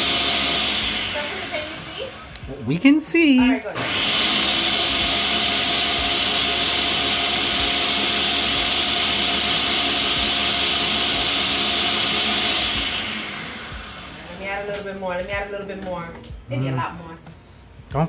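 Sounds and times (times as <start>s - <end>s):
blender running at high speed: 0.0s - 14.8s.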